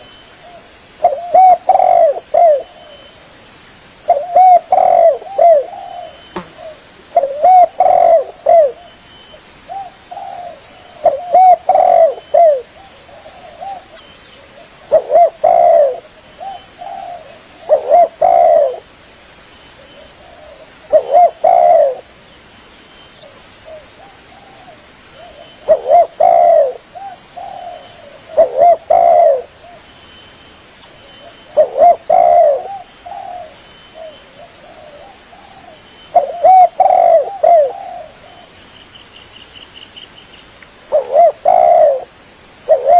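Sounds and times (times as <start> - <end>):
dove cooing: 0.0 - 3.2, 4.1 - 9.0, 9.7 - 18.9, 19.9 - 22.1, 23.2 - 29.8, 31.2 - 38.6, 40.9 - 42.9.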